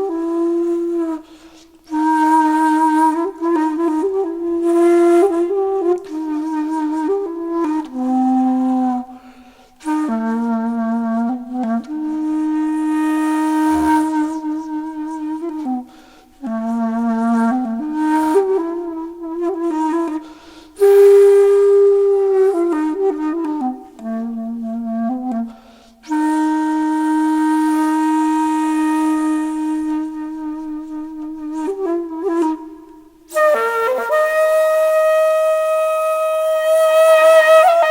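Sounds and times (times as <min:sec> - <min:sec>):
flute playing slow melody: 0:00.0 - 0:37.9.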